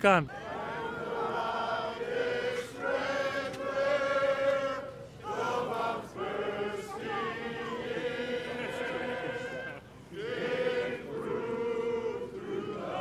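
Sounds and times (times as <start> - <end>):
choir singing long held notes: 0.3 - 13.0.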